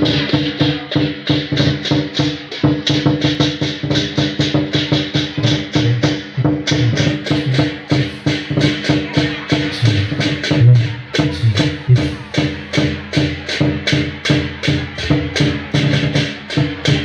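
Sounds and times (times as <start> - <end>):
fast drum strokes: 0.0 - 17.0.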